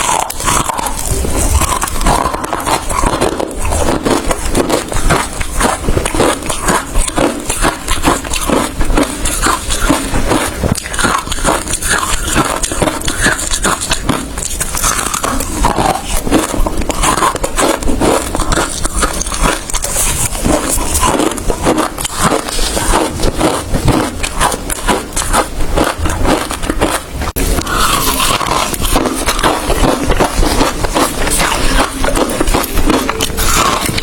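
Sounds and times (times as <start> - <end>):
ice being chewed: 0.0 - 34.0.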